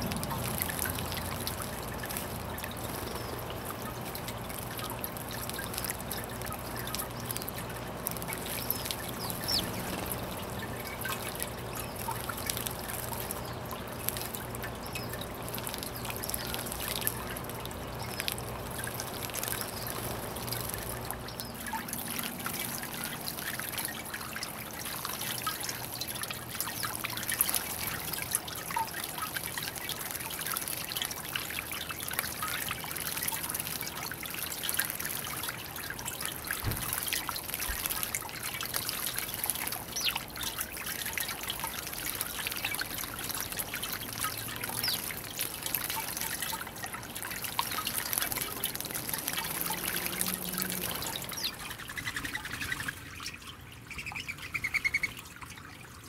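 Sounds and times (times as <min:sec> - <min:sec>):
fountain water trickling and splashing: 0:00.0 - 0:56.0.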